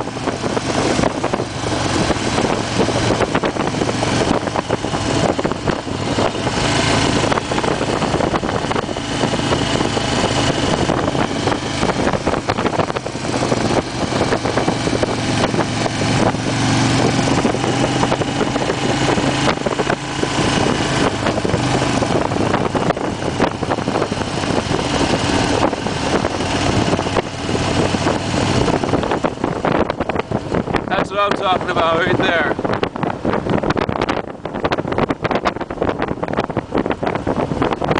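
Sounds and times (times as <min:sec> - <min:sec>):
motorcycle engine running: 0:00.0 - 0:37.9
wind rush over microphone: 0:00.0 - 0:37.9.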